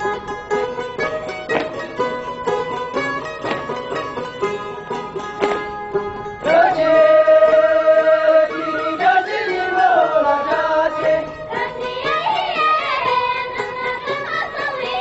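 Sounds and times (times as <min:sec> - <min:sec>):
plucked string instrument: 0:00.0 - 0:15.0.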